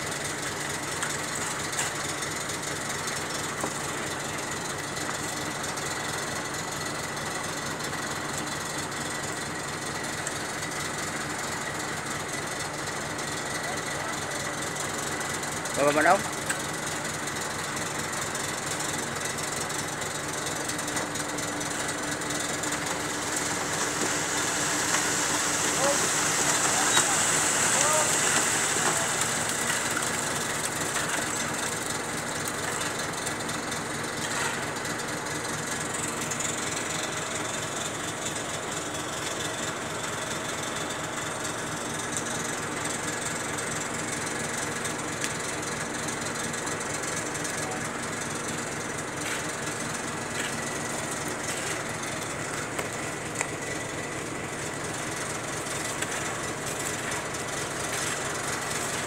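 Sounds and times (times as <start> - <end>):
large engine running: 0.0 - 59.0.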